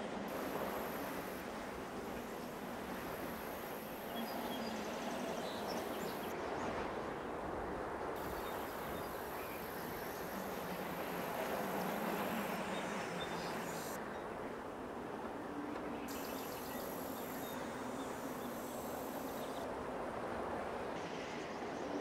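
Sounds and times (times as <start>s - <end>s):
open-air noise: 0.0s - 22.0s.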